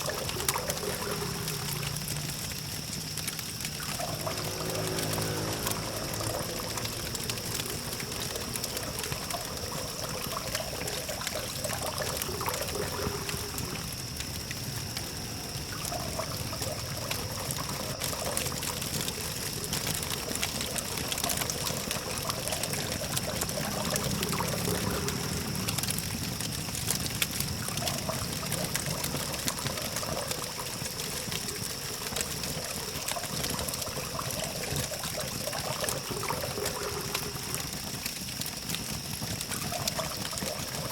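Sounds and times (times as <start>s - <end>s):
distant traffic hum: 0.0s - 37.7s
campfire crackling and popping: 0.0s - 40.9s.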